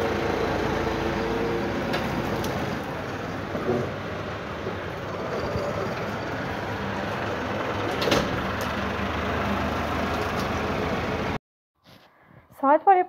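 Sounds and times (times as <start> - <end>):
tractor diesel engine running: 0.0 - 11.4.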